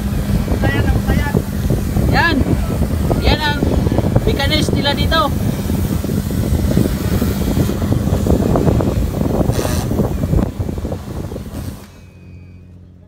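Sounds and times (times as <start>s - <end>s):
wind buffeting microphone: 0.0s - 12.9s
steady low hum: 0.0s - 13.0s.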